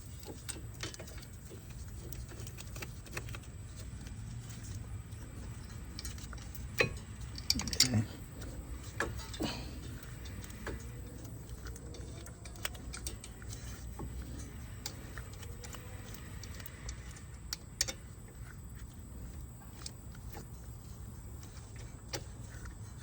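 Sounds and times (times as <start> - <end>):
light clicks and taps: 0.1 - 23.0.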